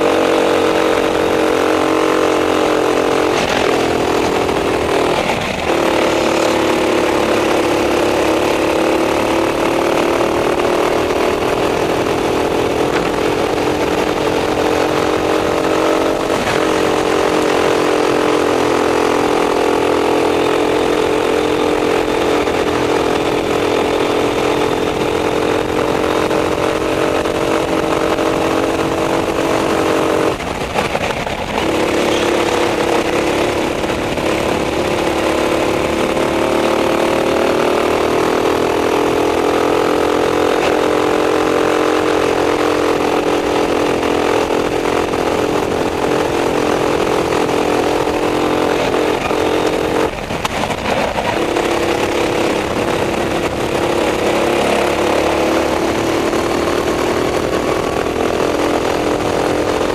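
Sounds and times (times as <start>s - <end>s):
kart engine at high revs: 0.0s - 59.9s.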